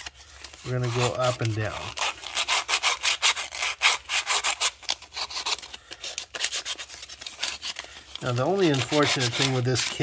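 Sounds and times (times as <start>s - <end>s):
sandpaper rasping on plastic: 0.0s - 10.0s.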